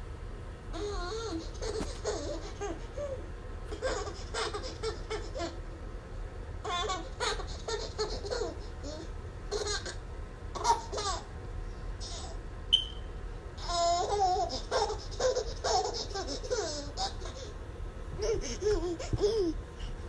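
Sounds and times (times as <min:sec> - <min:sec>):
baby laughing and babbling: 0:00.7 - 0:05.6, 0:06.6 - 0:11.3, 0:12.0 - 0:12.4, 0:13.6 - 0:20.0.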